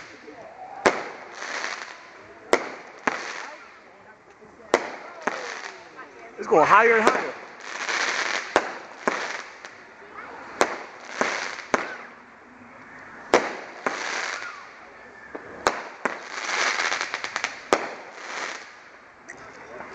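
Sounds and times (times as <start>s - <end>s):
firework bangs: 0.0s - 3.8s, 4.7s - 6.0s, 6.8s - 12.2s, 13.3s - 19.0s.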